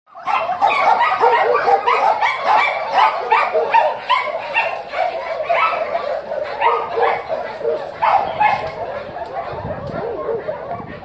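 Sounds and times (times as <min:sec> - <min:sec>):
dogs barking: 0:00.1 - 0:11.0.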